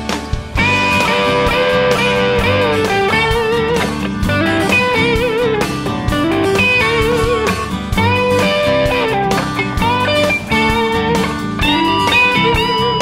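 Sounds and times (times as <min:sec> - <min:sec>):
electric guitar lead melody: 0:00.0 - 0:13.0
steady beat: 0:00.0 - 0:13.0.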